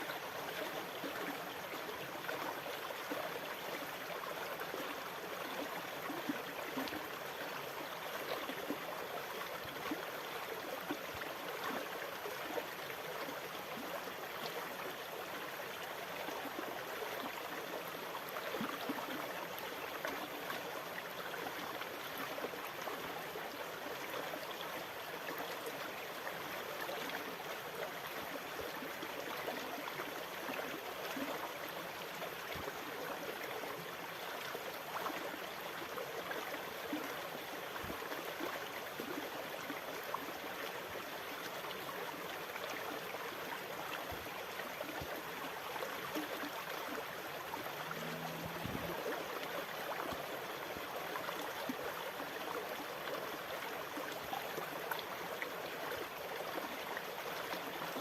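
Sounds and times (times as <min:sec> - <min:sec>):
water gurgling and trickling: 0:00.1 - 0:58.0.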